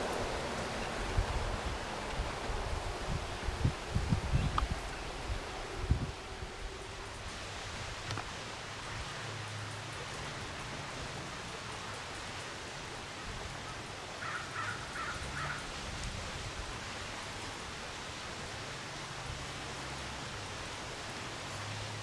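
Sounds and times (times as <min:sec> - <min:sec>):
outdoor ambient hiss: 0:00.0 - 0:22.0.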